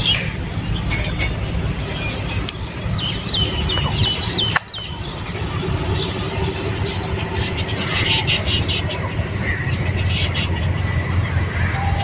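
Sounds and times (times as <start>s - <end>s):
bird chirping: 0.0s - 12.0s
low outdoor background rumble: 0.0s - 12.0s.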